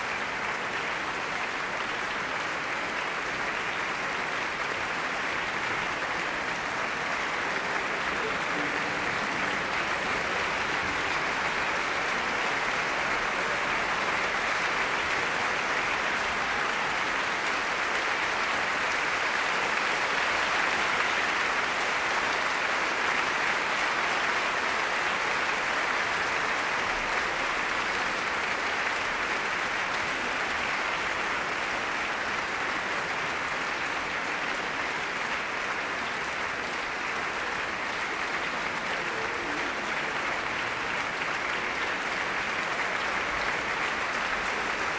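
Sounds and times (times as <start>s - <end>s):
audience applauding: 0.0s - 44.9s.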